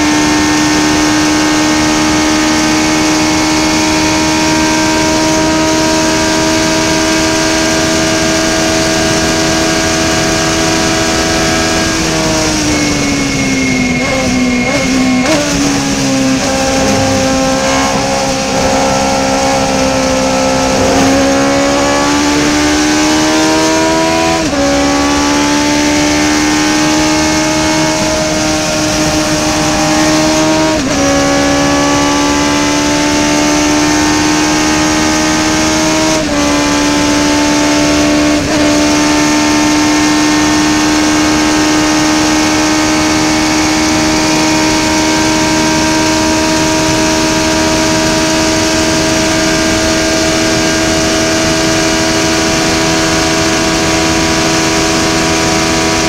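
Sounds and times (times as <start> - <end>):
race car engine accelerating: 0.0 - 56.0
wind and road noise: 0.0 - 56.0.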